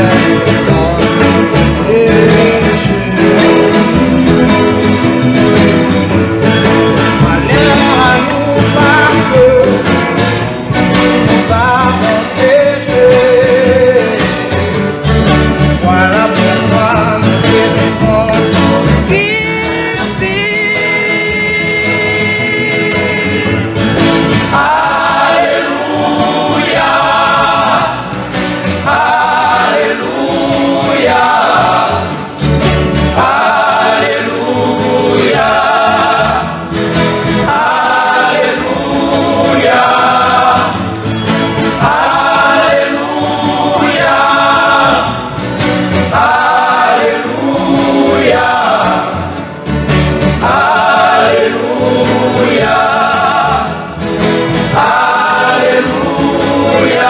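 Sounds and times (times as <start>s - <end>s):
men's choir singing: 0.0s - 57.0s
strummed acoustic guitars: 0.0s - 57.0s.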